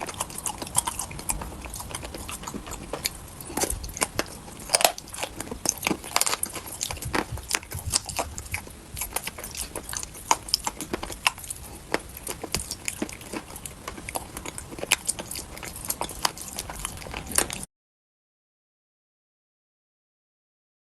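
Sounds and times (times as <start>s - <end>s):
chalk being chewed: 0.0s - 17.7s.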